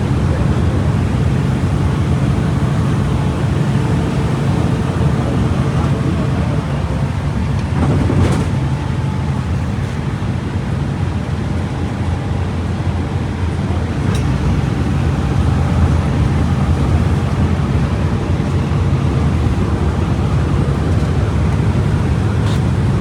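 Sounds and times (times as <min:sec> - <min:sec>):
bus engine droning: 0:00.0 - 0:23.0.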